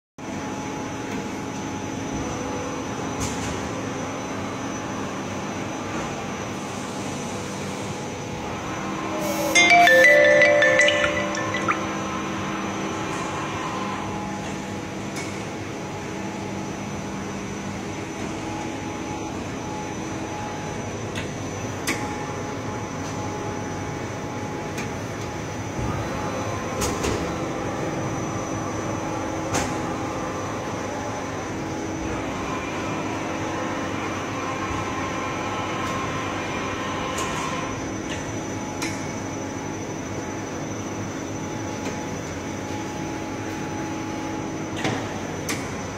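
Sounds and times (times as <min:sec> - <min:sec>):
machine mechanical hum: 0:00.2 - 0:45.9.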